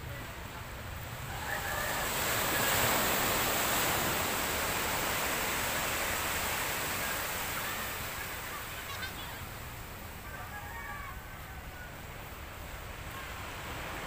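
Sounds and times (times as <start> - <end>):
small waves breaking on beach: 0.0 - 14.0.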